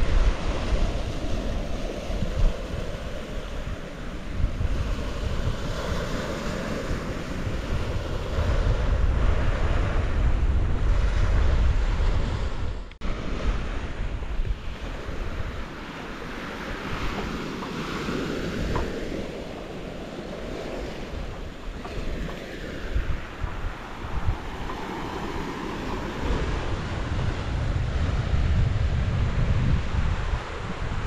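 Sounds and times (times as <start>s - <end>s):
sea waves: 0.0s - 31.0s
wind buffeting microphone: 0.0s - 31.0s.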